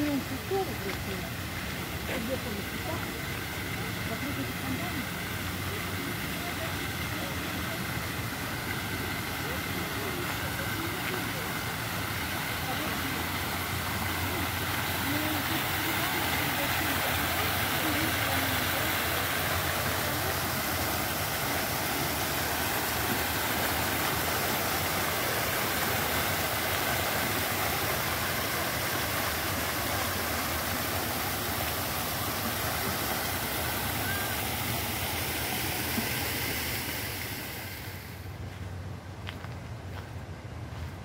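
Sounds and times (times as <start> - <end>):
fountain splashing into basin: 0.0 - 38.4.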